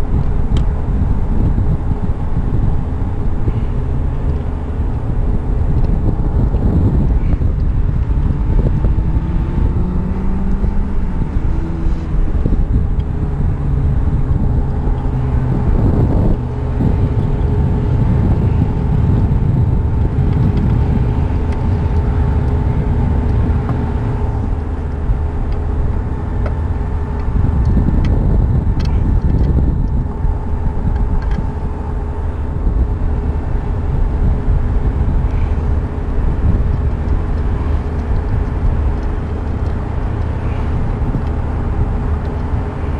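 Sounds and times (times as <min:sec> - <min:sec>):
faint machinery hum: 0:00.0 - 0:42.9
wind buffeting microphone: 0:00.0 - 0:42.9.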